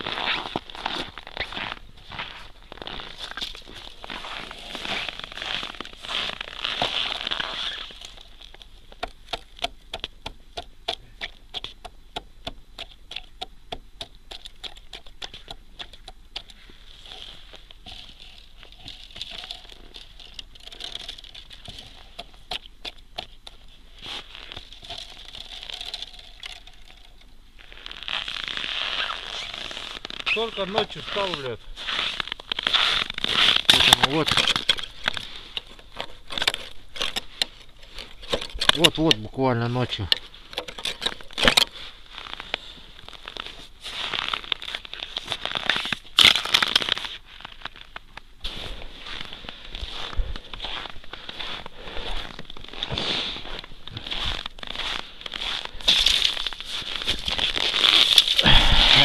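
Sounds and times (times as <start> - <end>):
ice crunching underfoot: 0.0 - 11.7, 14.3 - 59.0.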